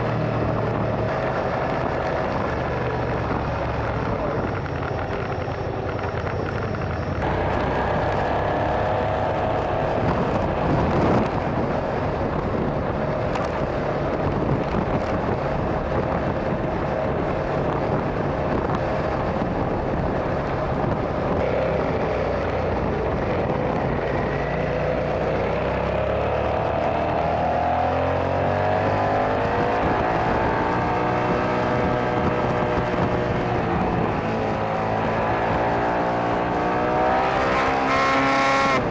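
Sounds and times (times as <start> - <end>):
motorcycle engine running: 0.0 - 38.9
wind rush: 0.0 - 38.9.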